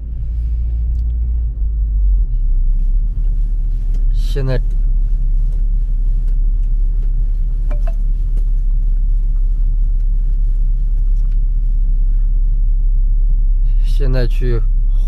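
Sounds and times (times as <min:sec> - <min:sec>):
low road and drivetrain rumble: 0:00.0 - 0:15.0.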